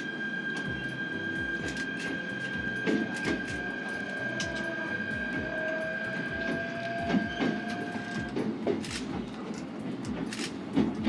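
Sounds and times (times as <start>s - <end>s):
electric train motor whine: 0.0s - 11.0s
train wheels rumbling over rails: 0.0s - 11.0s.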